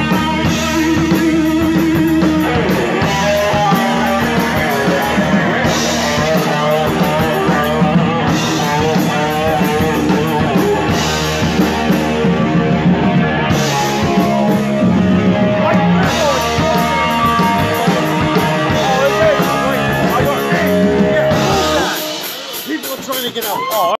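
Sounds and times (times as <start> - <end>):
electric guitar: 0.0 - 22.9
drum kit: 0.0 - 23.9
rock band playing: 0.0 - 23.9.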